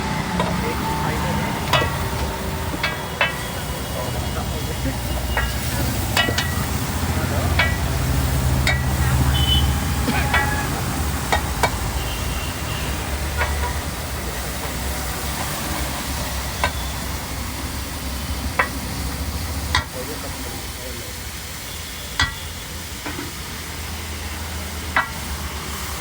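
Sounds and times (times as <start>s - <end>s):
food sizzling: 0.0s - 26.0s.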